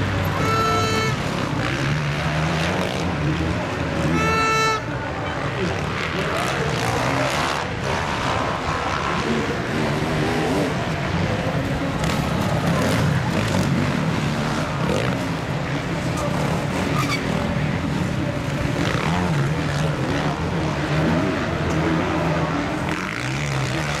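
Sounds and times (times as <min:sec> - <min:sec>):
crowd chatter: 0:00.0 - 0:24.0
motorcycle engines running: 0:00.0 - 0:24.0.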